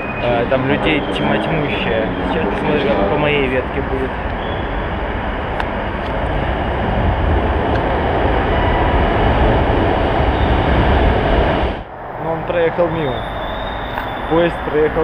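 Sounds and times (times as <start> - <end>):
metro train rumbling past: 0.0 - 15.0.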